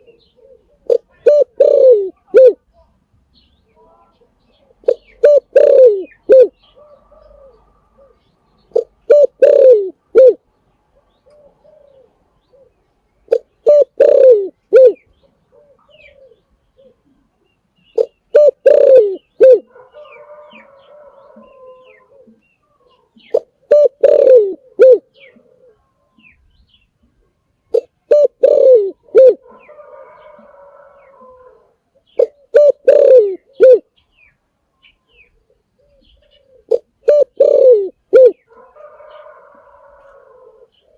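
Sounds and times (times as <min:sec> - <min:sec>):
dove cooing: 0:00.0 - 0:02.7, 0:04.5 - 0:10.4, 0:11.0 - 0:17.3, 0:18.0 - 0:26.3, 0:27.1 - 0:34.0, 0:35.2 - 0:40.9
birds twittering: 0:03.3 - 0:09.9, 0:11.0 - 0:40.9.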